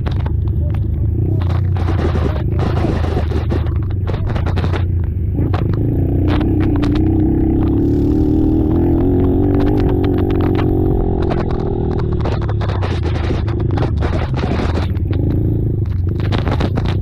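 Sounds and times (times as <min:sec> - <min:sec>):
atv engine running hard: 0:00.0 - 0:17.0
sharp clicks and scraping: 0:00.0 - 0:17.0.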